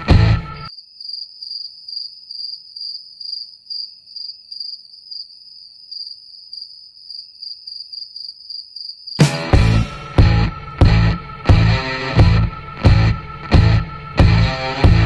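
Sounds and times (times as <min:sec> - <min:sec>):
crickets chirping: 0:00.2 - 0:15.0.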